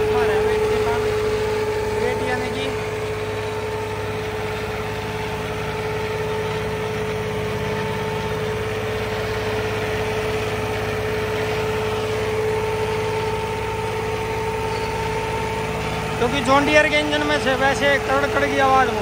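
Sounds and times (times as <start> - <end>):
steady whine: 0.0 - 19.0
tractor diesel engine under load: 0.0 - 19.0.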